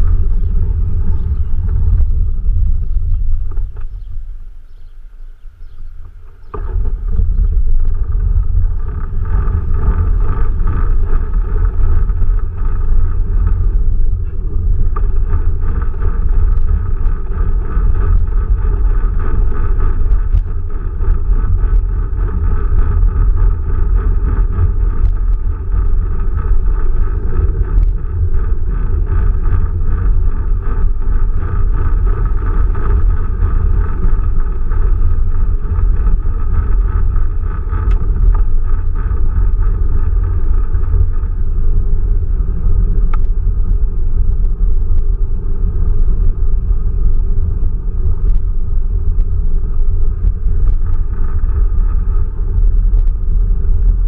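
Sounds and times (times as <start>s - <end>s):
low rumble of tyres and drivetrain: 0.0s - 54.0s.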